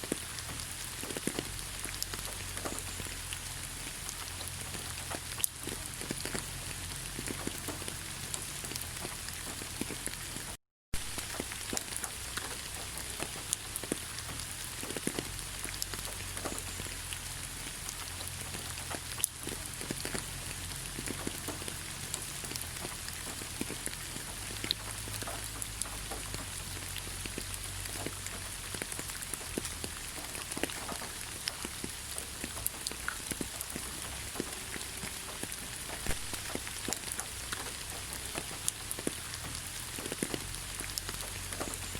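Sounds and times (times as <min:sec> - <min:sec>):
raindrops striking close by: 0:00.0 - 0:41.9
steady rain falling: 0:00.0 - 0:41.9.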